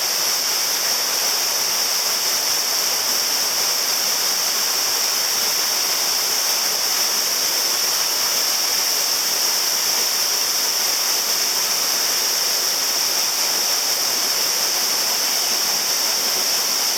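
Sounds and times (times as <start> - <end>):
waterfall pouring into a pool: 0.0 - 16.9.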